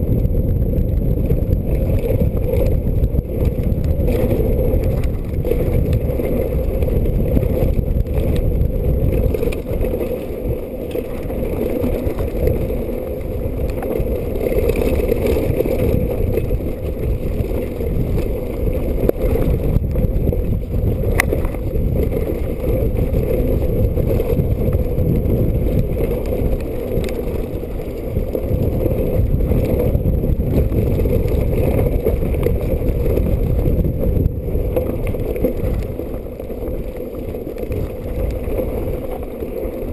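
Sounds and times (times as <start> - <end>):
bike tyres rumbling on dirt: 0.0 - 39.9.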